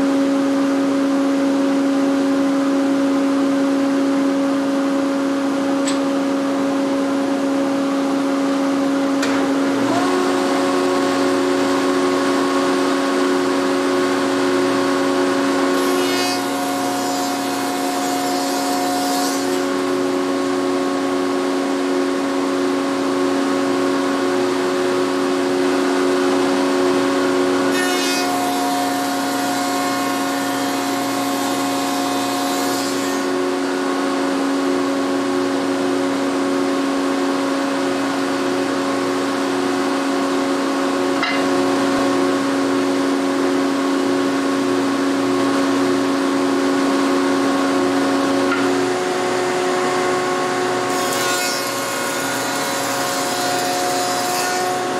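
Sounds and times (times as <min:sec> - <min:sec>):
power feeder motor: 0:00.0 - 0:54.9.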